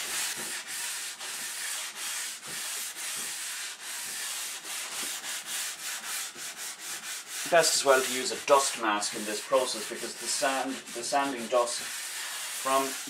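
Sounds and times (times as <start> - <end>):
sandpaper scratching on wood: 0.0 - 13.0.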